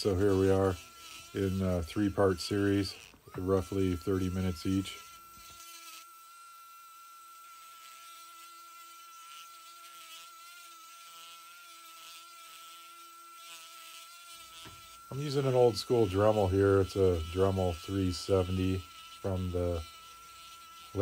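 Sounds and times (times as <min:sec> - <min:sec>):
burr grinding wood: 0:00.0 - 0:21.0
rotary tool whining: 0:00.0 - 0:21.0.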